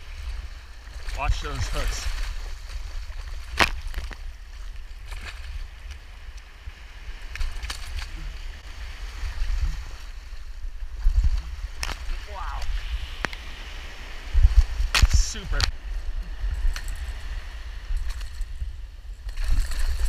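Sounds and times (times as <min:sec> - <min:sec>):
shallow surf washing: 0:00.0 - 0:03.6, 0:04.2 - 0:20.0
wind rumbling on microphone: 0:00.0 - 0:20.0.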